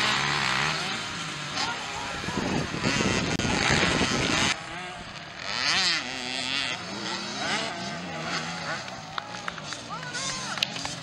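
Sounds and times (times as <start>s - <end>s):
distant motorbikes revving: 0.0s - 11.0s
motocross bike passing close: 0.0s - 11.0s.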